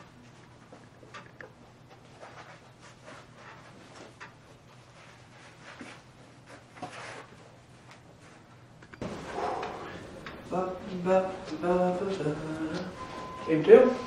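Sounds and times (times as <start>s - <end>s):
footsteps and rustling: 0.0s - 14.0s
low electrical hum: 0.0s - 14.0s
noisy room: 0.0s - 14.0s.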